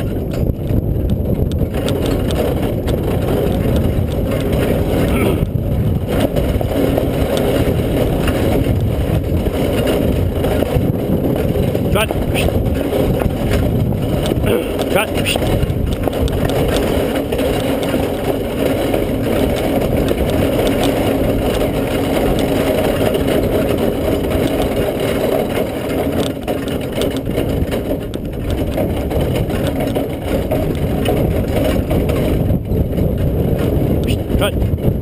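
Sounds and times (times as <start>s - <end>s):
carriage rattling: 0.0s - 35.0s
carriage wheels rumbling: 0.0s - 35.0s.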